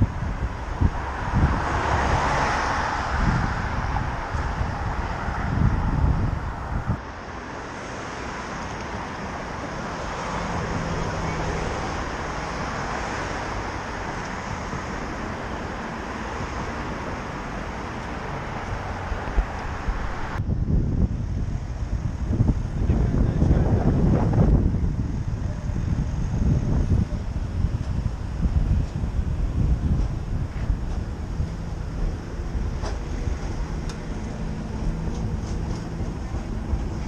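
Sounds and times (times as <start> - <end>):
wind buffeting microphone: 0.0 - 7.0, 10.0 - 37.0
city street traffic: 0.0 - 37.0.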